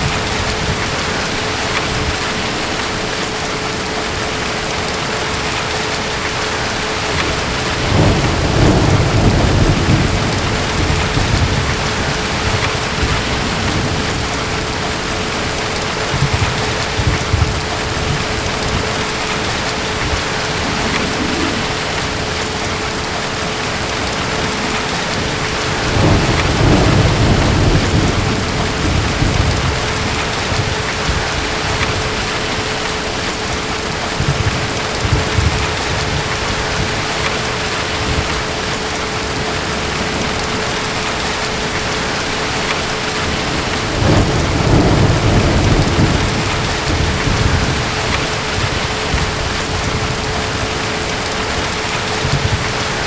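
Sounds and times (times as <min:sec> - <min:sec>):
heavy rain: 0:00.0 - 0:53.0
distant thunder rumbling: 0:04.7 - 0:53.0.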